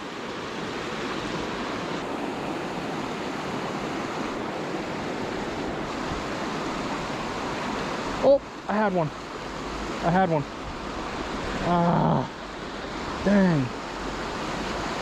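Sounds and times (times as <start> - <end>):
water rushing in a creek: 0.0 - 15.0.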